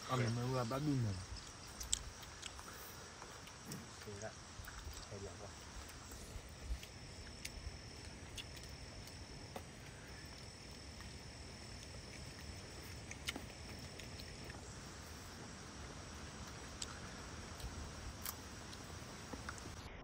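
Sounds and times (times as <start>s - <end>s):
insect trilling: 0.0s - 20.0s.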